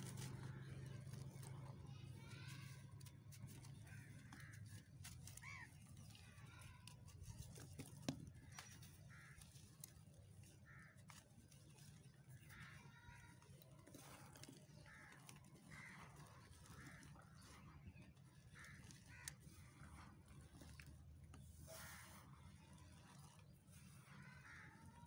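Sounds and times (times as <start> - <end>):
faint bird calls: 0.0 - 25.0.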